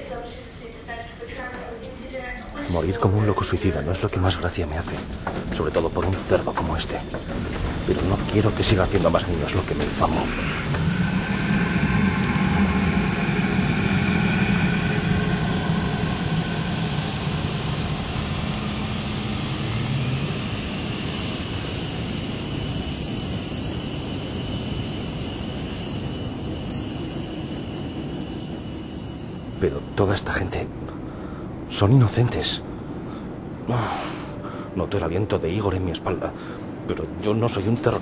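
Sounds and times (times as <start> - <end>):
high engine whine: 1.6 - 38.0
airliner cabin engine rush: 2.5 - 38.0.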